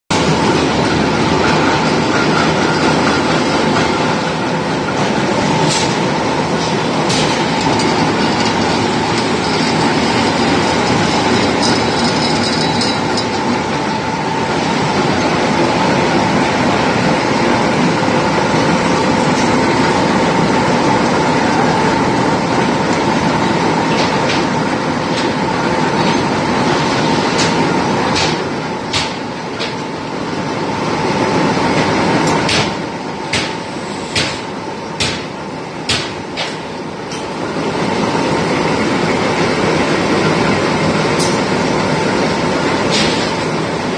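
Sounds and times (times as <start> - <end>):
industrial rolling mill din: 0.1 - 43.9
steady machine whine: 0.1 - 43.9.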